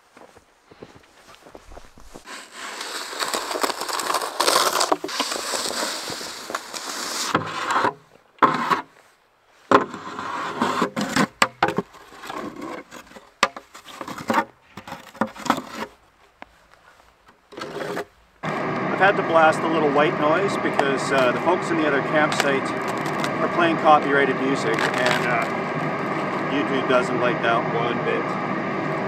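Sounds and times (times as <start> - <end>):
snow shovel scraping wood: 2.0 - 16.0, 16.8 - 29.0.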